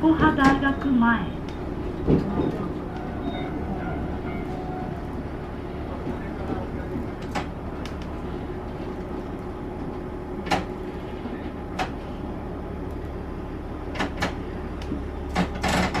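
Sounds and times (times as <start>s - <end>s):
diesel railcar rumbling: 0.0s - 16.0s.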